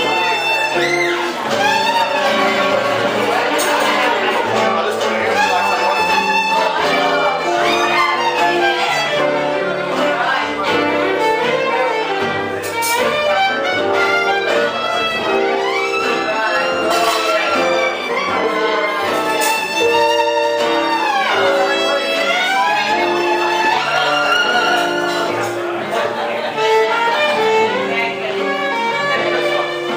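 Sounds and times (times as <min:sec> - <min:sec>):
live band music: 0:00.0 - 0:29.9
sliding lead melody: 0:00.0 - 0:29.9.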